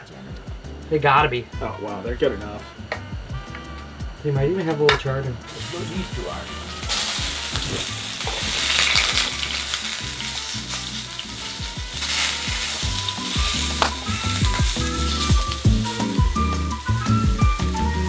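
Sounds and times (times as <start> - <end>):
background music: 0.0 - 18.0
patties sizzling in frying pan: 3.3 - 18.0.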